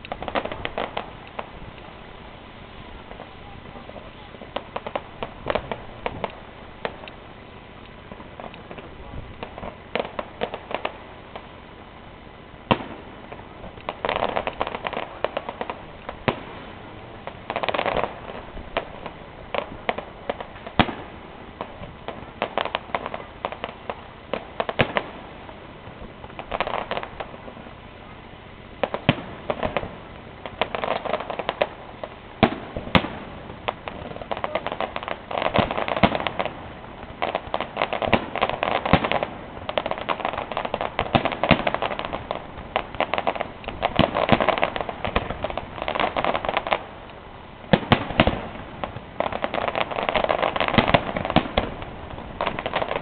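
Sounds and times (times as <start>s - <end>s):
firework bangs: 0.0s - 53.0s
fireworks crackling: 0.0s - 53.0s.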